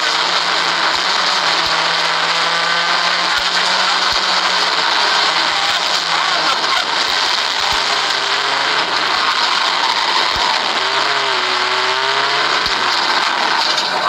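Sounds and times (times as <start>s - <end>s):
car engine running: 0.0s - 14.0s
car knocking over bumps: 0.0s - 14.0s
road and tyre noise: 0.0s - 14.0s.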